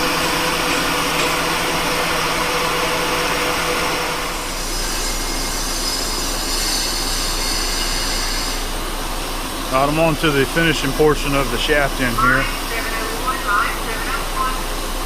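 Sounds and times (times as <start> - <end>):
metal lathe hum: 0.0 - 12.8.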